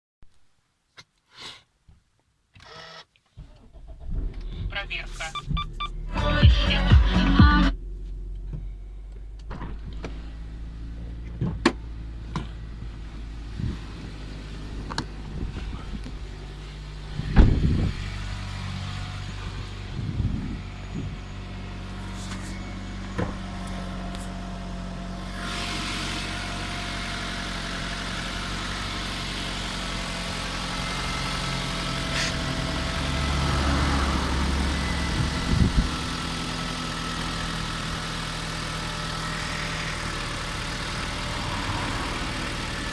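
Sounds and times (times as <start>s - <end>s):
car engine idling: 3.4s - 42.9s
engine knocks and thumps: 3.4s - 42.9s.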